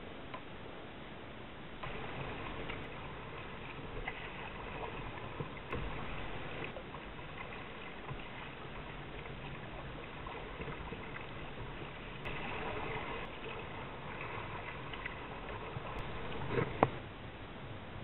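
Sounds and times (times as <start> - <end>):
water lapping against hull: 1.8 - 17.2.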